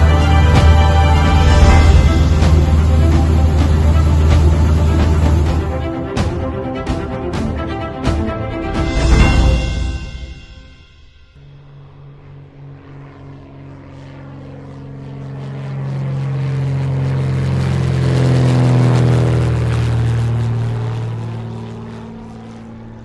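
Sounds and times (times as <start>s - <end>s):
propeller airplane flying past: 0.0s - 23.0s.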